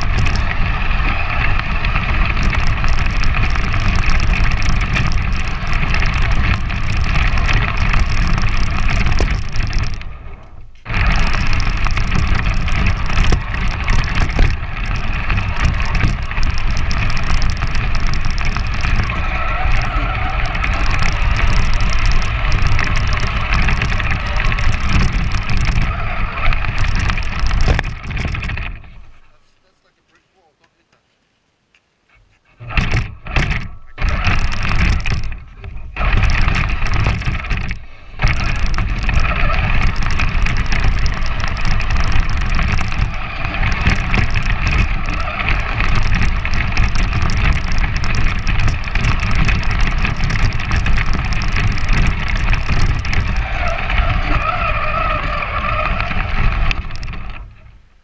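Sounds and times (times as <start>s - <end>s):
toy truck motor and gears: 0.0s - 29.1s, 32.6s - 57.6s
tyres rumbling over pavement and snow: 0.0s - 29.3s, 32.6s - 58.0s.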